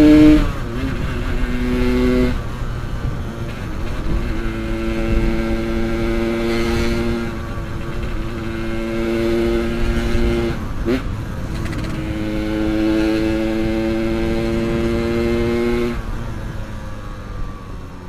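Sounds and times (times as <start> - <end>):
motorcycle engine while riding: 0.0 - 18.0
road and wind noise: 0.0 - 18.0.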